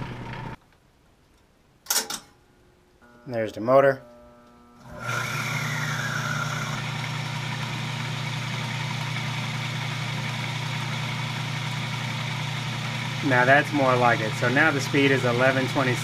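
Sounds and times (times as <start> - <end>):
electric motor humming: 3.0 - 16.0.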